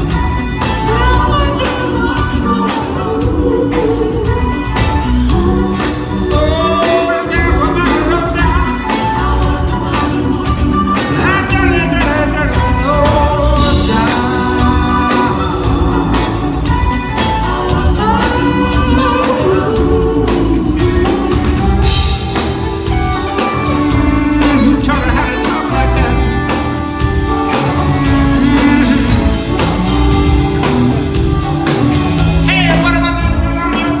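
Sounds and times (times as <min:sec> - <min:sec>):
drums keeping a steady beat: 0:00.0 - 0:34.0
electric guitar: 0:00.0 - 0:34.0
keyboards: 0:00.0 - 0:34.0
person singing: 0:00.0 - 0:34.0.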